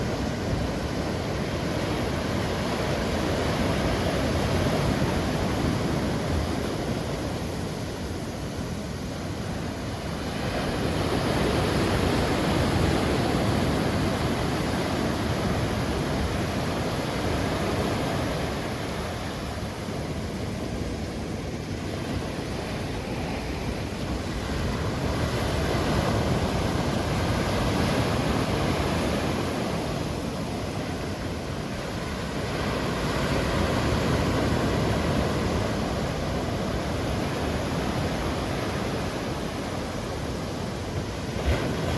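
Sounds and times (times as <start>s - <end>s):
heavy surf breaking on beach: 0.0s - 41.9s.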